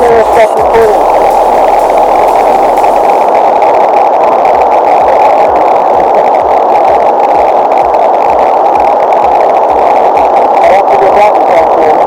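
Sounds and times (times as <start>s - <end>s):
rushing whitewater: 0.0s - 12.0s.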